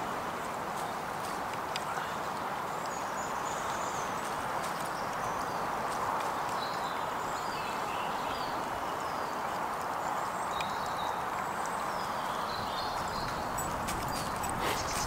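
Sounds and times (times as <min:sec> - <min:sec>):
stream running over stones: 0:00.0 - 0:15.0
small birds chirping: 0:00.8 - 0:15.0.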